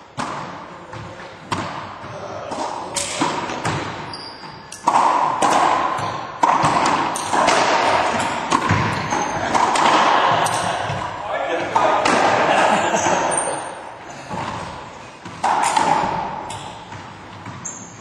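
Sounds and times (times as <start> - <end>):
racquetball hits echoing: 0.1 - 18.0.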